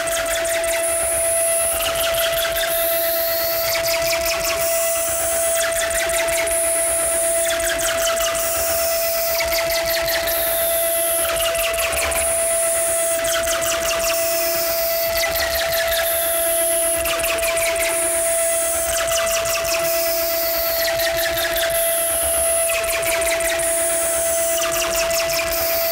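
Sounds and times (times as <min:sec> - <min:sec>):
steady electronic tone: 0:00.0 - 0:25.9.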